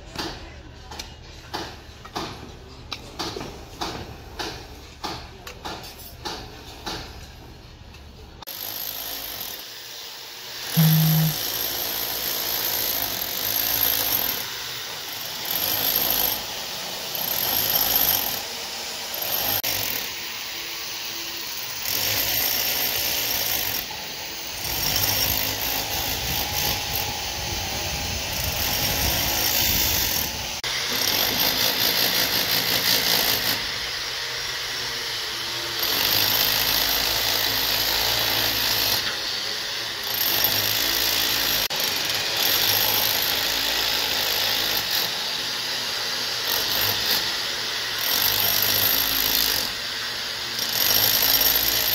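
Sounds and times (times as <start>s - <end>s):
construction site noise: 0.0s - 51.9s
power tool cutting steel rebar: 8.4s - 51.9s.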